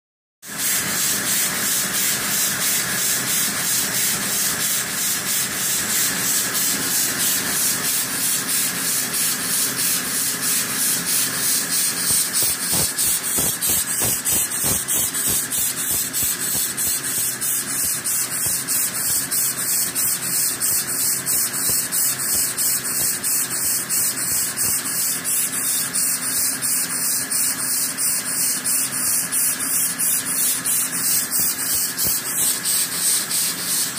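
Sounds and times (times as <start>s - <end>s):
air-powered engine chuffing: 0.5s - 33.9s.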